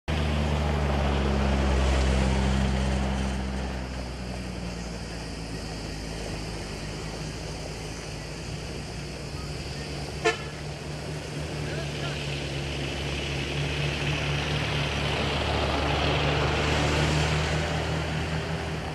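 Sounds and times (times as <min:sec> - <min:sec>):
engine low hum: 0:00.1 - 0:18.9
rushing noise: 0:00.1 - 0:18.9.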